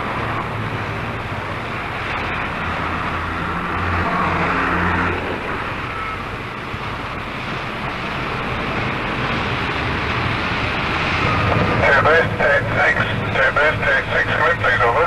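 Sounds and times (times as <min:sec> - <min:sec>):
vehicle engine humming steadily: 0:00.0 - 0:15.0.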